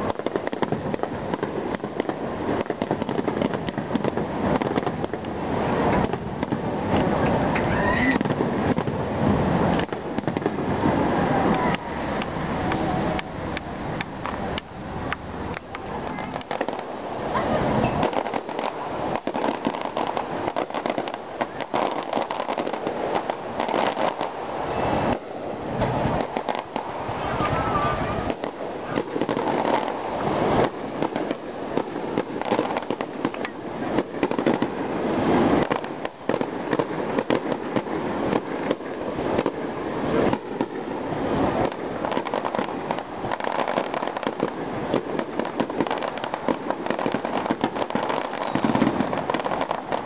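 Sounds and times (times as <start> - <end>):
firework shells bursting: 0.0 - 50.0.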